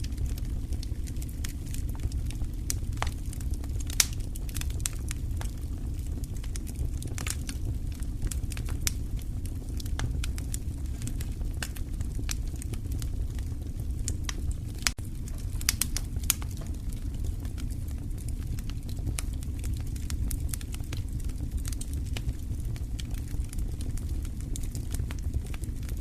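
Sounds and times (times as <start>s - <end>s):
low rumble of burning: 0.0s - 26.0s
wood fire crackling: 0.0s - 26.0s.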